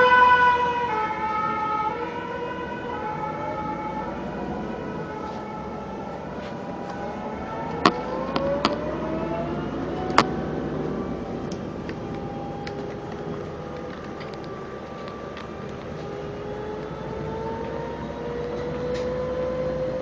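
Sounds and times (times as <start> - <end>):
bus running noise: 0.0 - 20.0
hybrid bus layered whine: 0.0 - 20.0.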